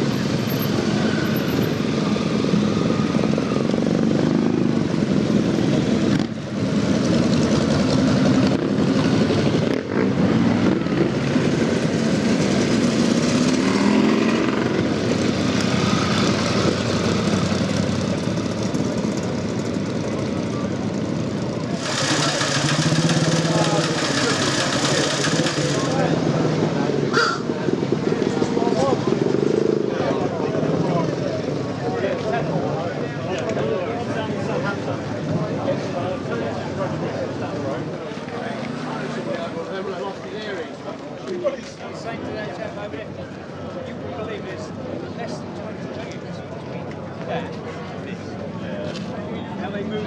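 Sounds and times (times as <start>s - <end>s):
crowd chatter: 0.0s - 50.0s
motorcycle engines revving: 0.0s - 50.0s.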